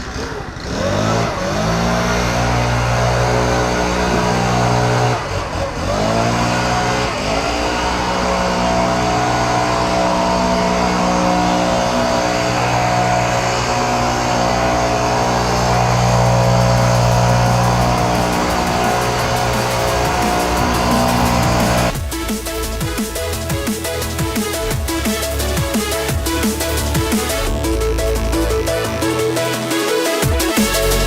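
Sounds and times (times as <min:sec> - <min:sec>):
backpack blower running: 0:00.0 - 0:31.0.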